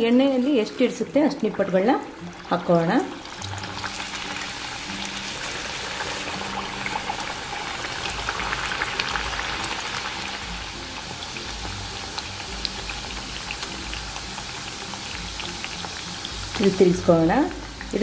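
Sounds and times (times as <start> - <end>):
crackers deep-frying in oil: 0.0 - 18.0.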